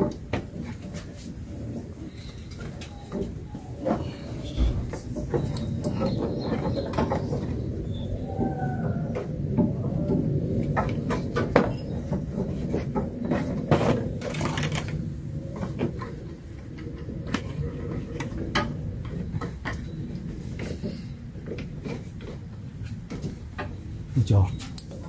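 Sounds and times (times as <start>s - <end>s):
low background rumble: 4.0s - 24.4s.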